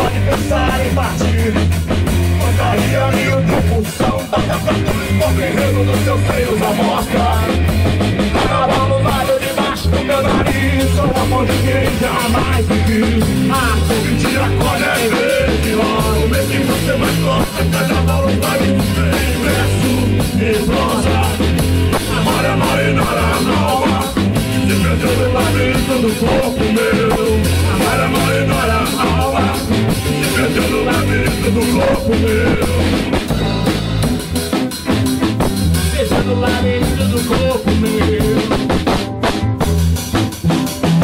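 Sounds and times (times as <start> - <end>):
drum kit playing: 0.0 - 41.0
electric bass line: 0.0 - 41.0.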